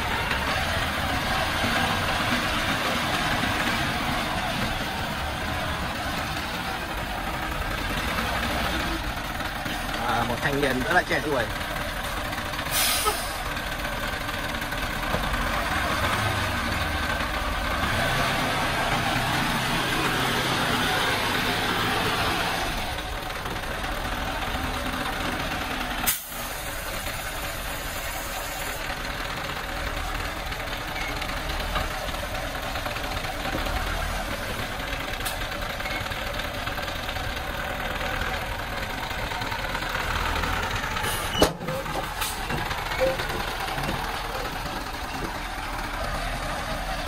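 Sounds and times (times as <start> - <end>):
diesel truck engine running: 0.0 - 47.0.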